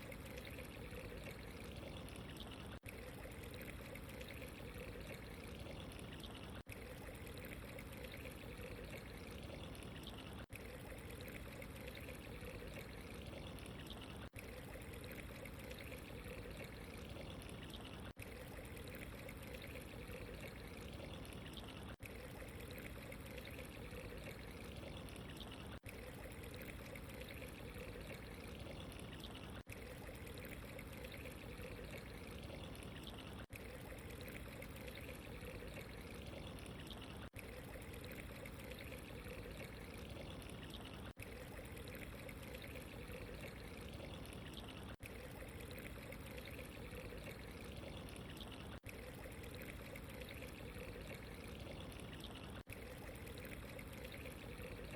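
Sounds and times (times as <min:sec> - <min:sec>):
trickling water: 0:00.0 - 0:54.9.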